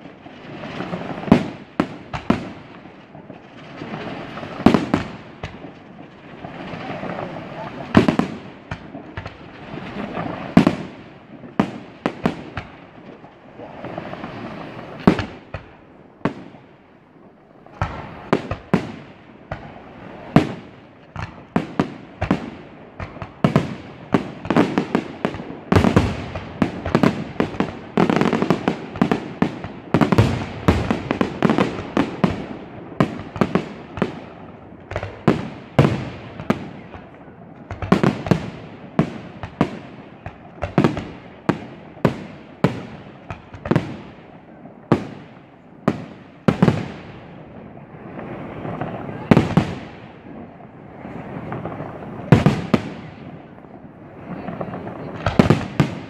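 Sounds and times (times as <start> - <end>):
fireworks bursting bangs: 0.0 - 56.0.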